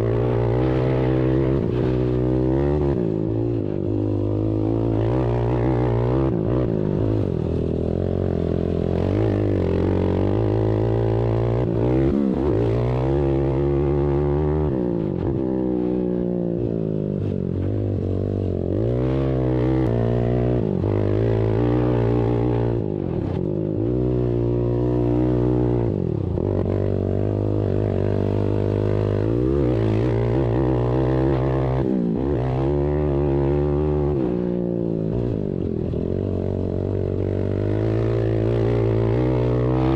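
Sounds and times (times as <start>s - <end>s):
atv engines revving: 0.0s - 16.8s, 17.5s - 39.9s.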